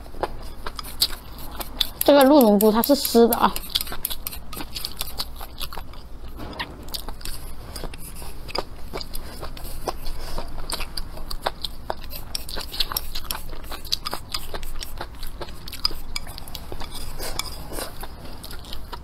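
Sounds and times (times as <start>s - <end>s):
close-up chewing of crisp food: 0.0s - 19.0s.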